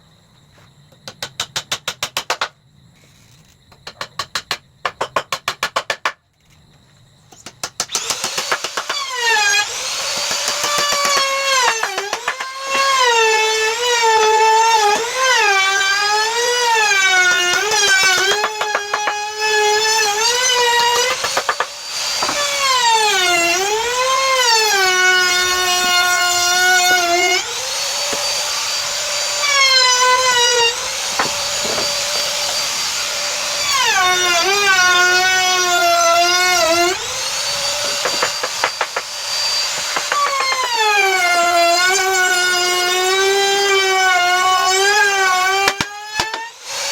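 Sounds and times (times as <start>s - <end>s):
power tool motor whining: 7.9s - 46.9s.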